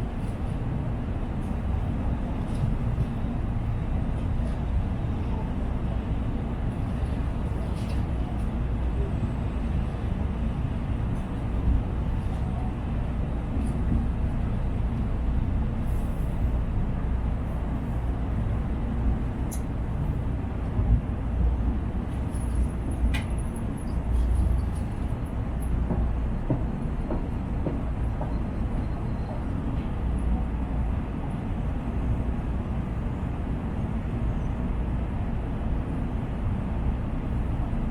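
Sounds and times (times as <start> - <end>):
train cabin rumble: 0.0 - 37.9.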